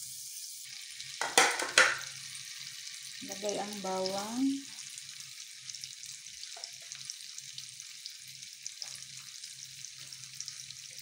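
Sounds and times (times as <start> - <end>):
garlic sizzling in butter: 0.0 - 11.0.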